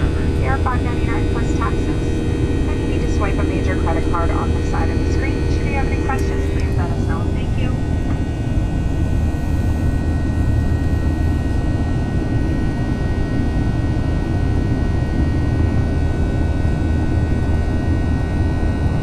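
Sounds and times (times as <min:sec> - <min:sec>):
faint steady hum tones: 0:00.0 - 0:19.0
jet engine rumble: 0:00.0 - 0:19.0.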